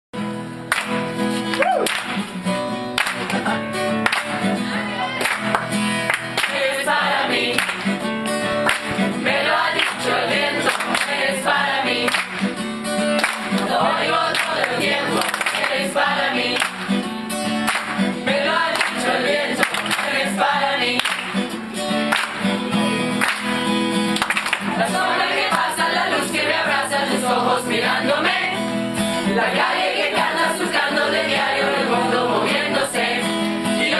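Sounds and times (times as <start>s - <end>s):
voices singing with instruments: 4.4s - 23.0s, 24.3s - 33.9s.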